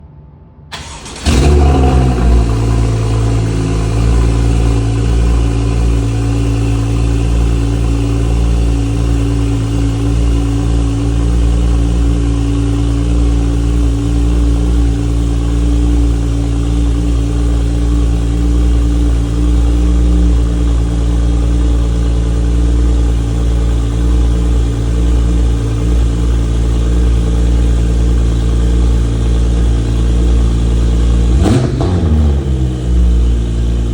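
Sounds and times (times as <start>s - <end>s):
car engine cold-starting and idling: 0.7s - 33.9s.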